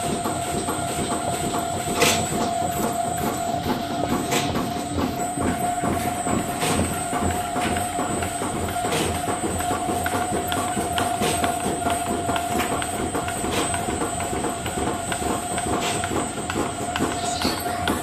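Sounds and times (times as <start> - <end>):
machine clattering: 0.0 - 18.0
machine whine: 0.0 - 18.0.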